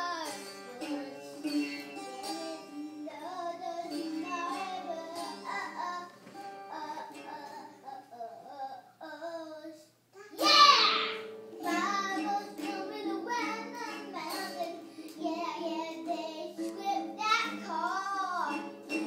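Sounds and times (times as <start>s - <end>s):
child singing: 0.0s - 19.0s.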